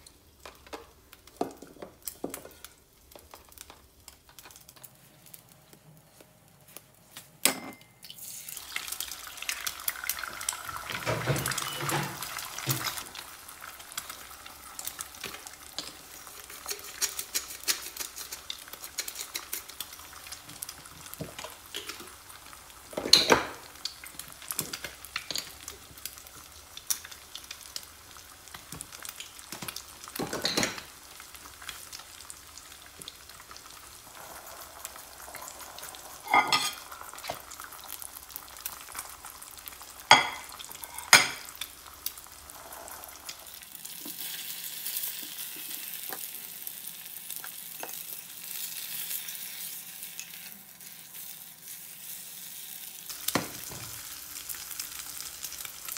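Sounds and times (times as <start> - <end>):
egg sizzling in hot oil: 8.0 - 55.9.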